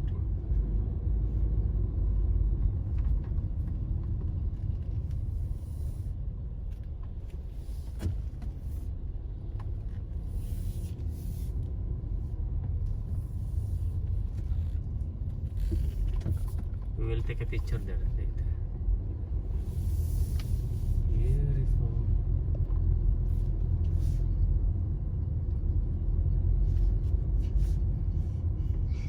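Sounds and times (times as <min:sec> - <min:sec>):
car road rumble inside cabin: 0:00.0 - 0:29.0.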